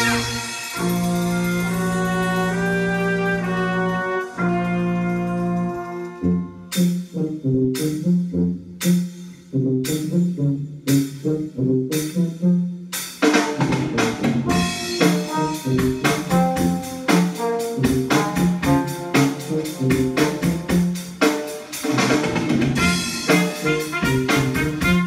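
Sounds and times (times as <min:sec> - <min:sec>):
jazz music over loudspeakers: 0:00.0 - 0:09.2, 0:09.8 - 0:25.0.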